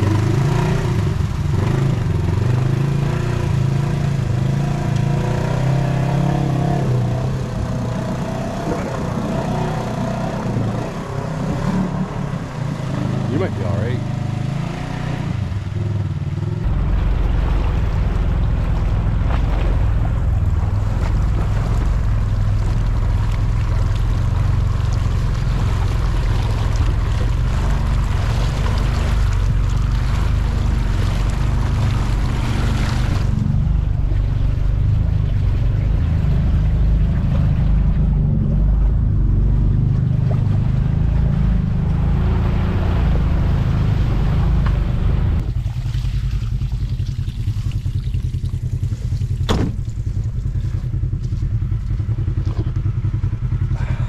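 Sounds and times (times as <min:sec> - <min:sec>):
utility vehicle engine running: 0:00.0 - 0:54.0
water rushing and splashing: 0:00.0 - 0:54.0.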